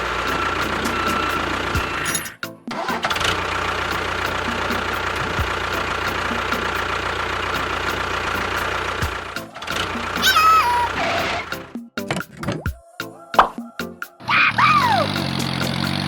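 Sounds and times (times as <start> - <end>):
engine running steadily: 0.0 - 11.7, 14.8 - 16.0.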